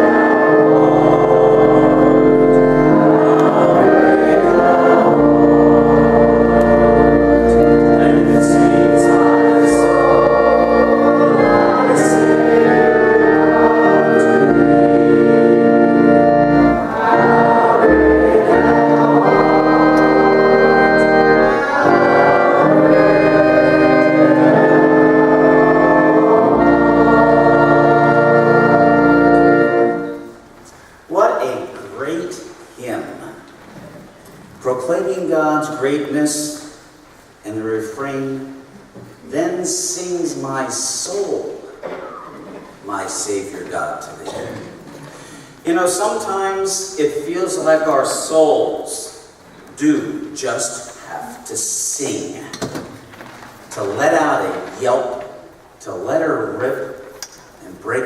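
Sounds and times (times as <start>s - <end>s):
organ playing a hymn: 0.0s - 33.8s, 34.6s - 52.4s, 53.1s - 58.0s.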